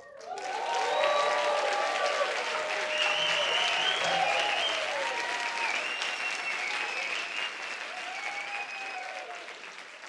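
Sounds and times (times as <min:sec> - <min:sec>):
cheers and whistles: 0:00.0 - 0:09.6
audience applauding: 0:00.0 - 0:10.0.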